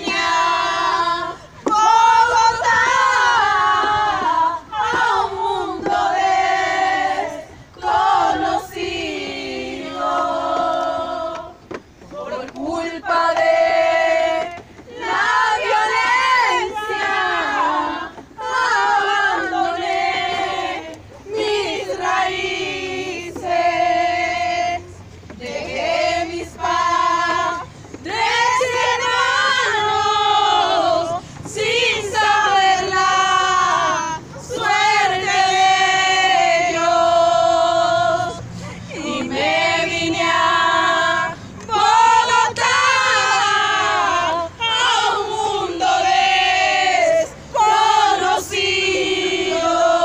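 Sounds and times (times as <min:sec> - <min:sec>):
group singing a cappella chant: 0:00.0 - 0:50.0.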